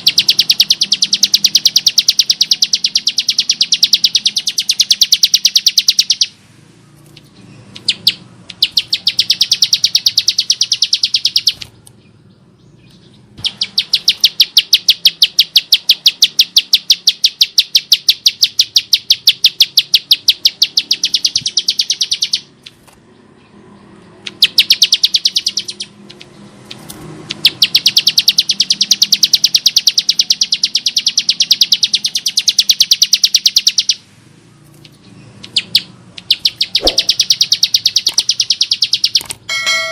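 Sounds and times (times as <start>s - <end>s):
bird singing rapid harsh notes: 0.0s - 34.0s, 34.7s - 39.9s.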